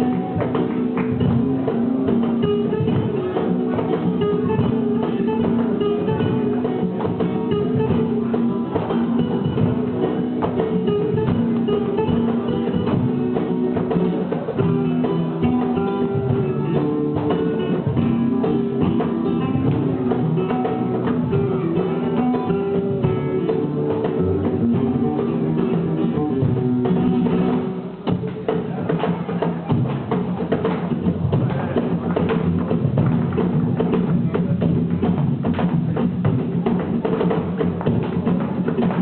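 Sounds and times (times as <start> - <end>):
flamenco acoustic guitar music: 0.0 - 39.0.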